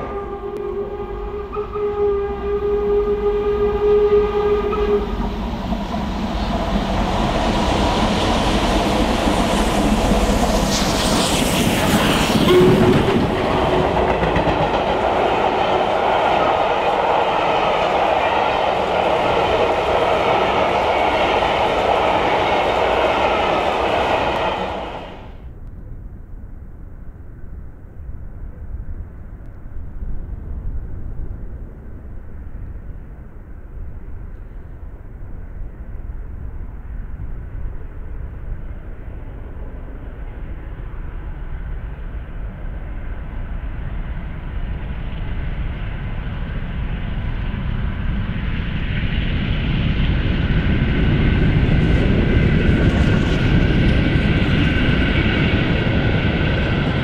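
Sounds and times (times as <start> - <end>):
steam train rumble: 0.0 - 25.4, 33.1 - 57.0.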